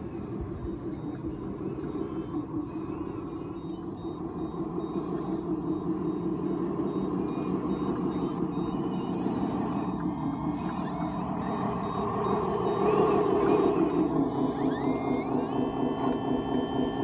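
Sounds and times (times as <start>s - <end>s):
faint reversing beep: 0.0s - 17.0s
toy construction machine running: 3.2s - 17.0s.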